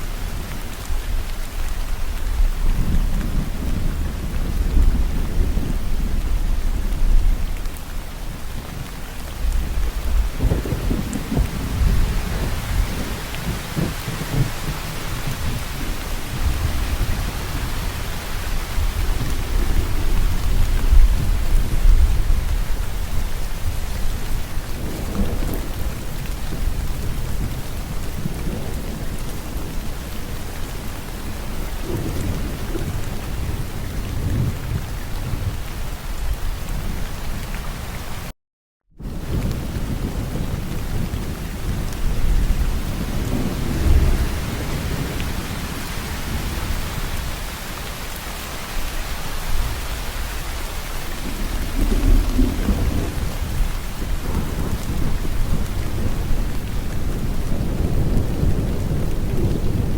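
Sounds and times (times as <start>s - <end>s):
heavy rain: 0.0s - 38.3s, 39.0s - 59.9s
rolling thunder rumbles: 0.2s - 37.6s, 39.0s - 59.9s.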